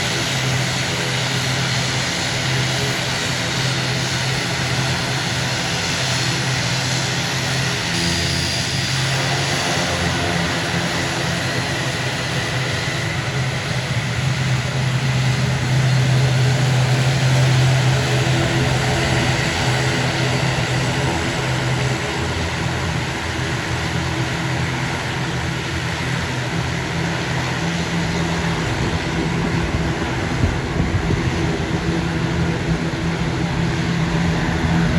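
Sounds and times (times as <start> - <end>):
airliner engines droning: 0.0 - 34.9.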